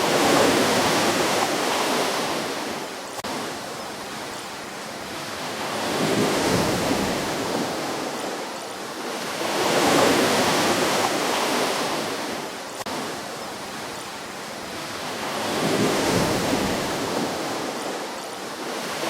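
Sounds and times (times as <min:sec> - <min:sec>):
ocean waves breaking on shore: 0:00.0 - 0:19.0.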